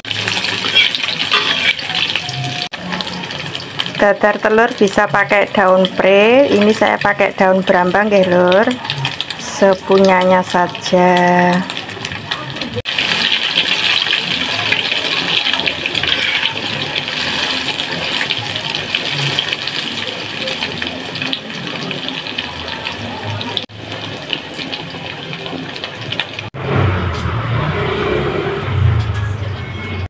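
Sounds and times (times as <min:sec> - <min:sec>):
omelette sizzling in hot oil: 0:00.0 - 0:26.6.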